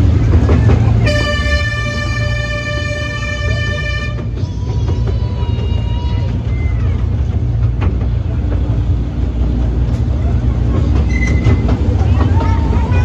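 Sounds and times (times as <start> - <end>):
toy train rumbling on track: 0.0 - 13.0.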